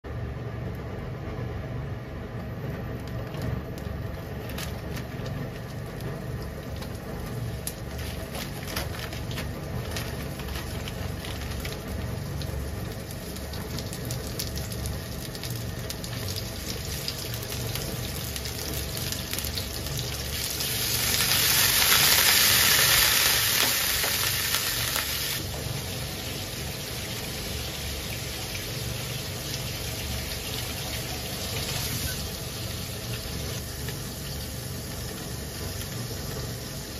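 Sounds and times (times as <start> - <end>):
chicken frying in oil: 2.4 - 36.9.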